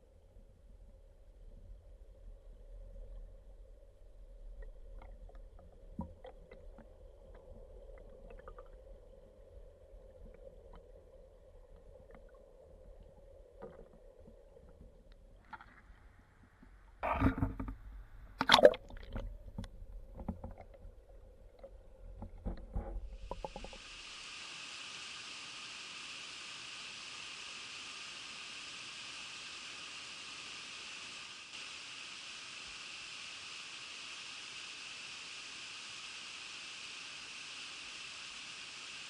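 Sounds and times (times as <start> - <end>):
muffled stream water: 0.0 - 39.0.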